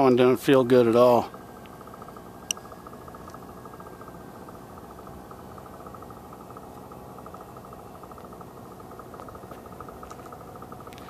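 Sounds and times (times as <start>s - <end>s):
distant model plane motor whine: 0.0s - 11.0s
rapid even pulsing: 0.0s - 11.0s.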